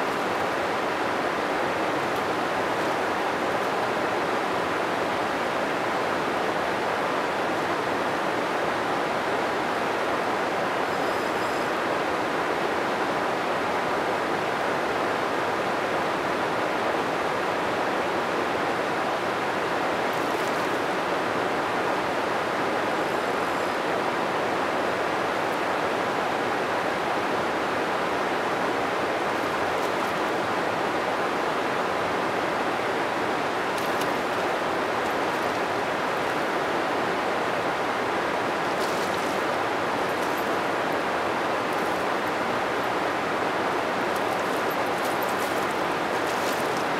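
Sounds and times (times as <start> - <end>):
river water rushing past rocks: 0.0 - 46.9.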